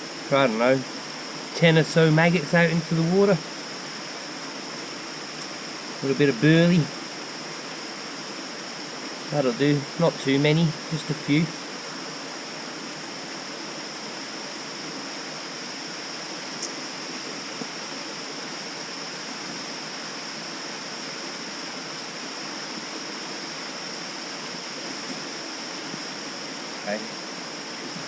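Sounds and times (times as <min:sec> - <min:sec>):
high-pitched insect drone: 0:00.0 - 0:28.0
small waterfall and stream: 0:00.0 - 0:28.0.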